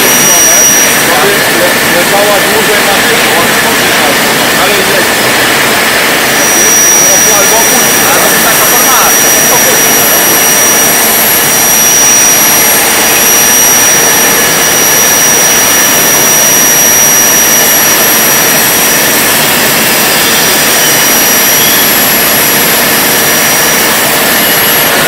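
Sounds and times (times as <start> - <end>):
cnc machine cutting: 0.0 - 25.0
high-pitched whine: 0.0 - 25.0.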